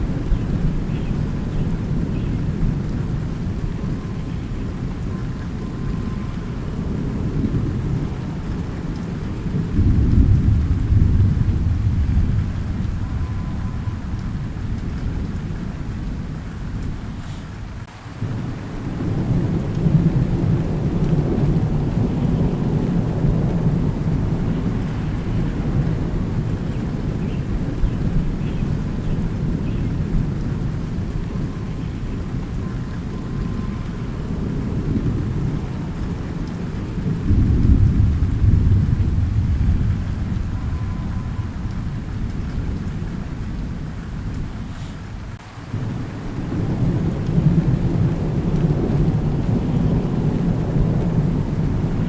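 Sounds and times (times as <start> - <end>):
deep rolling thunder: 0.0 - 17.2, 17.8 - 52.0
steady rain: 0.0 - 52.0.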